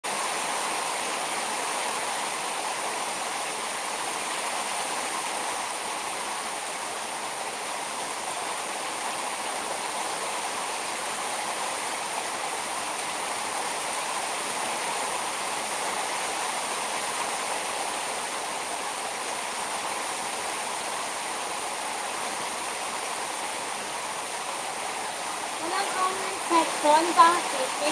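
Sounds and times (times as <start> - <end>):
heavy rain on net and car: 0.0 - 27.9.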